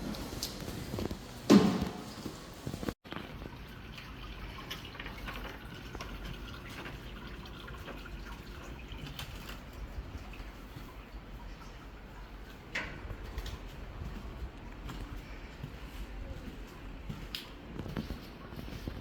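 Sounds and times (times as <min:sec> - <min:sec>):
water running and dripping: 0:00.0 - 0:15.9.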